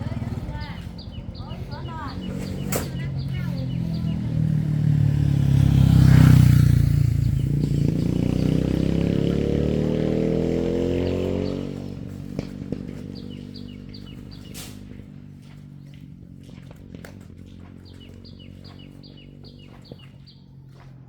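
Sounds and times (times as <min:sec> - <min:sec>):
vehicle engine speeding up: 0:00.0 - 0:21.0.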